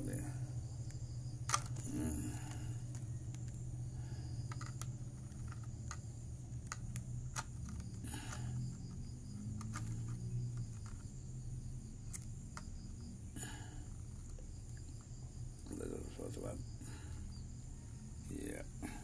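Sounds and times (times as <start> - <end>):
faint insect chirring: 0.0 - 19.0
steady low hum: 0.0 - 19.0.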